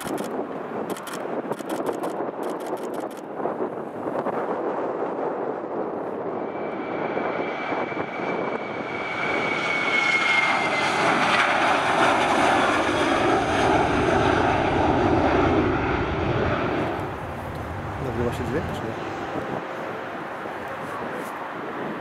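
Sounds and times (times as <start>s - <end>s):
jet engine whine: 0.0s - 22.0s
jet roar: 0.0s - 22.0s.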